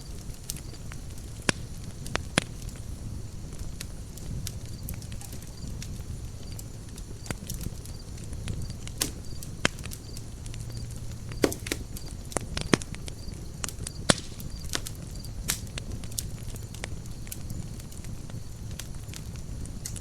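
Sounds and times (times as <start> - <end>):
low rumble of flames: 0.0 - 20.0
wood crackling and popping: 0.0 - 20.0.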